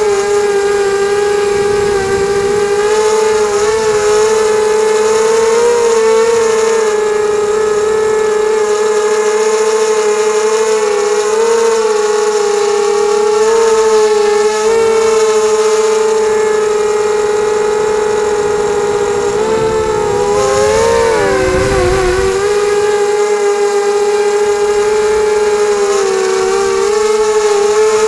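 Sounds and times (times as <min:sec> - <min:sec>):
drone motors and propellers whining: 0:00.0 - 0:28.0.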